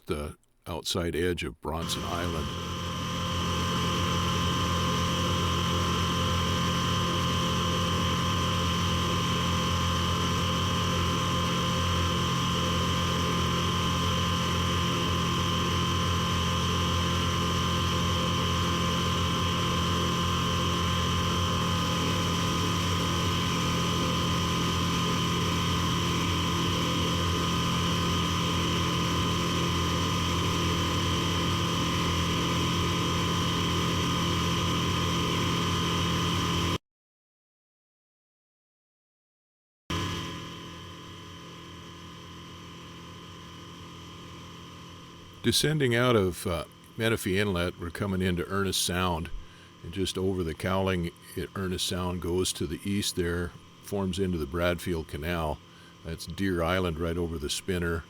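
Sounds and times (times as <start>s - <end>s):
light aircraft engine droning: 1.8s - 36.8s, 39.9s - 58.0s.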